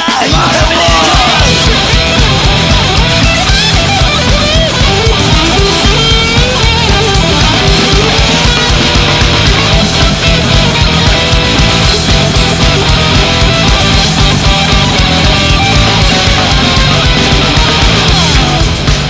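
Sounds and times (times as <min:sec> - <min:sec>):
rock band playing: 0:00.0 - 0:19.0
electric guitar lead: 0:00.3 - 0:19.0.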